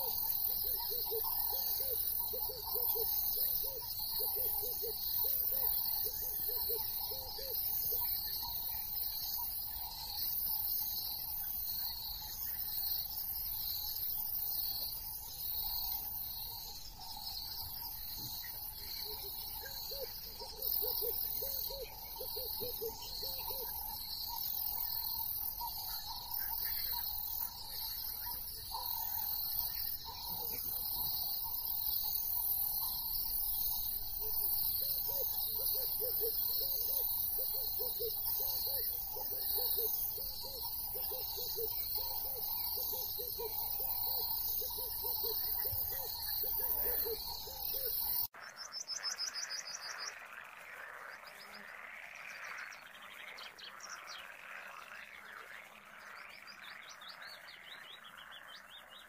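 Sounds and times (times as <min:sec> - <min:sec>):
crickets and insects chirring: 0:00.0 - 0:58.5
low repeated insect call: 0:00.0 - 0:59.0.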